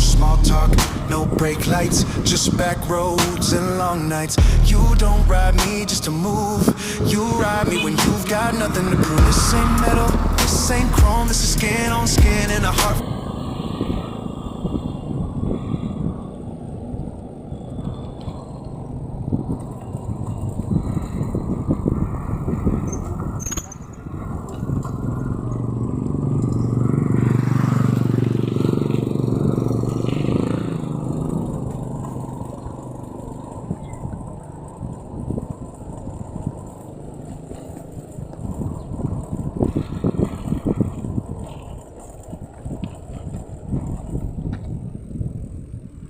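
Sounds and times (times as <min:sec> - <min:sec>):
road noise: 0:00.0 - 0:46.0
wind buffeting microphone: 0:00.0 - 0:46.0.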